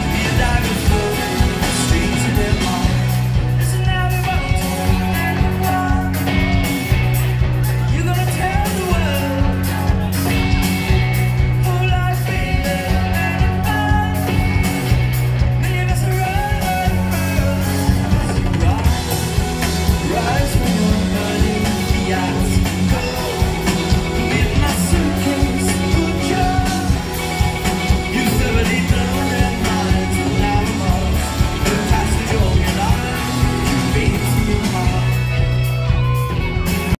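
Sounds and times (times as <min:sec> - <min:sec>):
person singing: 0:00.0 - 0:37.0
rock band playing live: 0:00.0 - 0:37.0.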